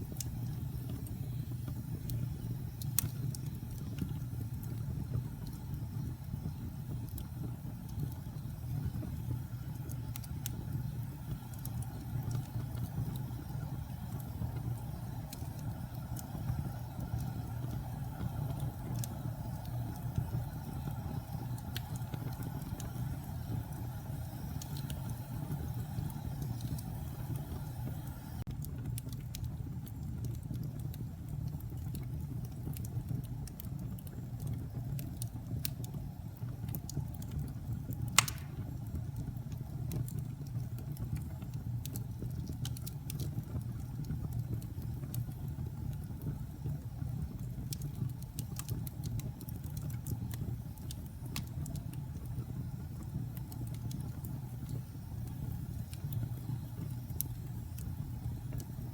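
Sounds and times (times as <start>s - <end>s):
fire crackling and popping: 0.0s - 58.9s
fire rumbling in a fireplace: 0.0s - 58.9s.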